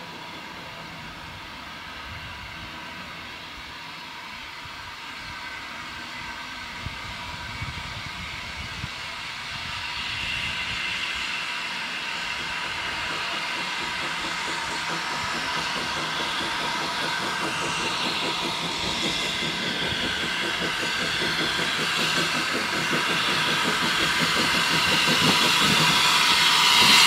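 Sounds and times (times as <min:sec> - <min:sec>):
steady hiss of steam: 0:00.0 - 0:27.0
steam locomotive approaching: 0:00.0 - 0:27.0.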